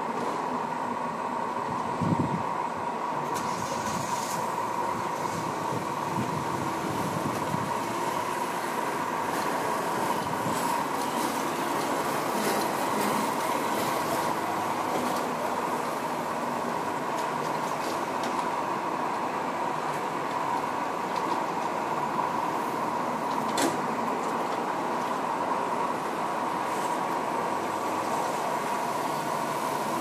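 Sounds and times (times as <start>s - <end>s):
vehicle hum: 0.0s - 30.0s.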